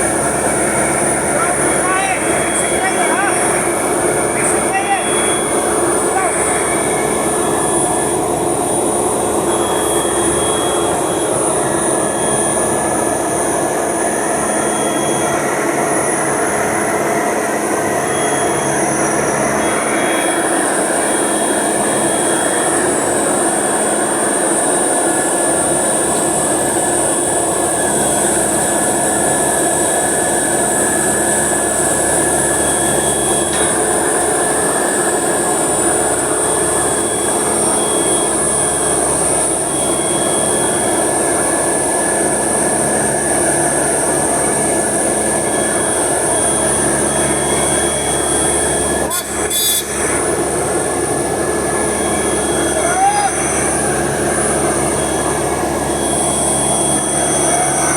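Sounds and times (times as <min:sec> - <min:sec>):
engine running: 0:00.0 - 0:57.9.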